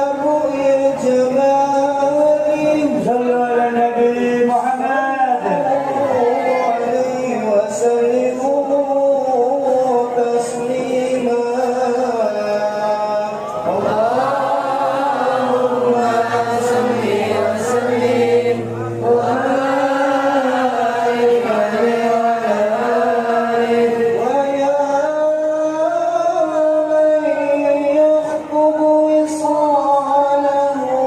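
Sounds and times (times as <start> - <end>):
person chanting melodic song: 0.0 - 31.0.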